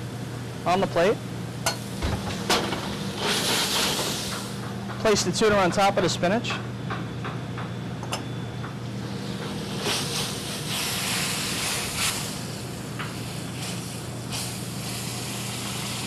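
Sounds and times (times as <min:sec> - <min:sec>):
kitchen background hum and hiss: 0:00.0 - 0:16.0.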